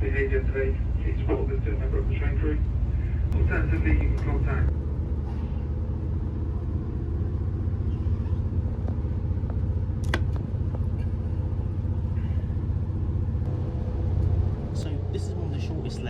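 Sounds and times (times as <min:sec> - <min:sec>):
train diesel engine drone: 0:00.0 - 0:16.0.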